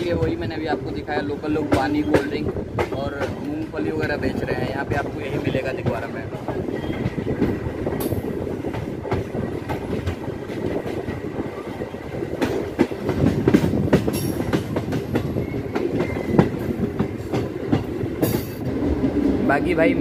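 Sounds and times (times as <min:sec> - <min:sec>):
clacks over rail joints: 0:00.0 - 0:19.2
train wheels rumbling on rails: 0:00.0 - 0:20.0.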